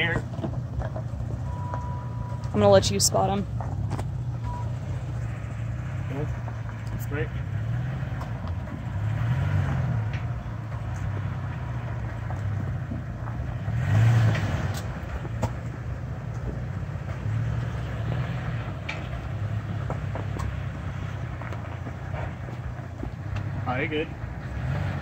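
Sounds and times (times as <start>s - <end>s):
truck engine running at low revs: 0.0s - 25.0s.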